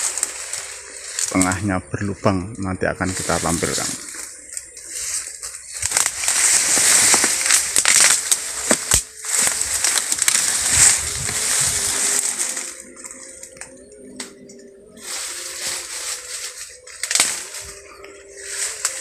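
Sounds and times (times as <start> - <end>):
stems snapping: 0.0 - 1.6, 3.1 - 19.0
rustling and crunching of grass: 0.0 - 19.0.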